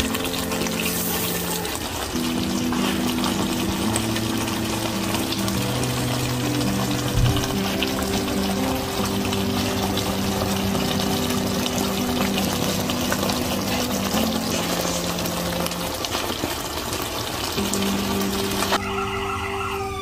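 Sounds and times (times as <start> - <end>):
sauce sizzling in a frying pan: 0.0 - 19.4
soft background music: 0.0 - 20.0.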